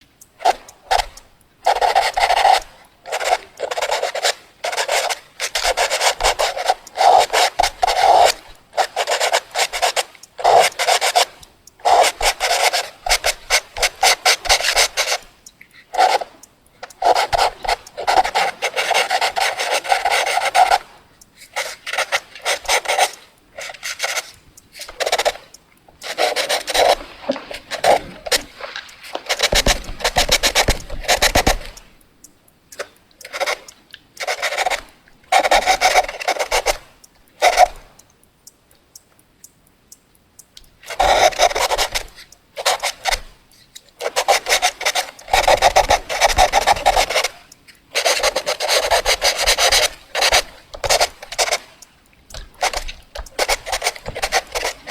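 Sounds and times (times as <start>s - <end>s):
pencil rasping on paper: 0.4s - 31.9s, 33.2s - 37.8s, 40.9s - 43.3s, 44.0s - 54.9s.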